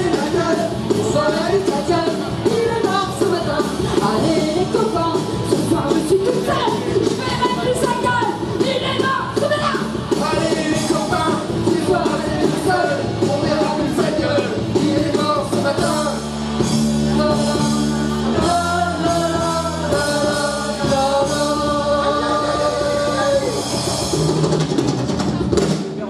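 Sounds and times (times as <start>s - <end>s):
people singing: 0.0s - 23.9s
electric bass: 0.0s - 25.8s
electric guitar: 0.0s - 25.8s
drum kit: 0.0s - 26.0s.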